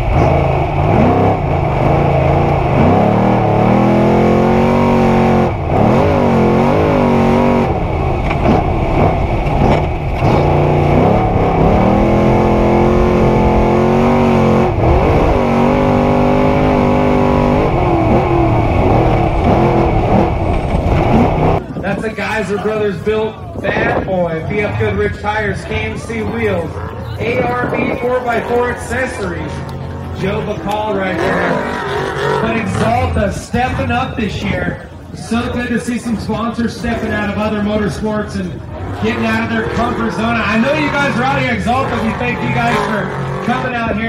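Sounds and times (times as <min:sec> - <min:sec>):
truck engine revving hard: 0:00.0 - 0:21.8, 0:23.7 - 0:44.0.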